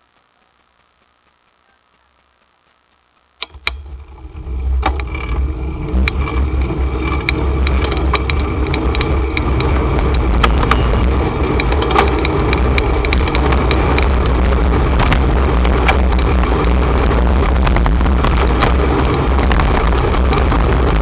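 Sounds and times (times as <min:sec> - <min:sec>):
bicycle freewheel ticking: 0:00.0 - 0:21.0
sharp rattles: 0:03.1 - 0:21.0
wind and road rumble: 0:03.5 - 0:21.0.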